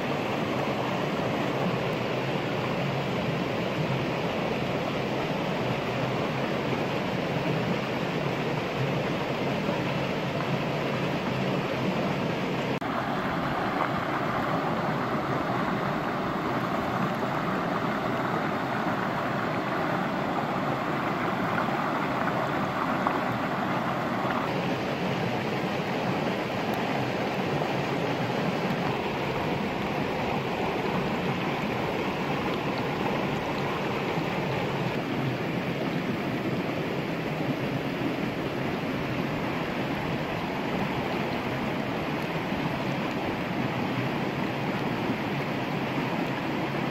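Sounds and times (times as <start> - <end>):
stream flowing: 0.0 - 46.9.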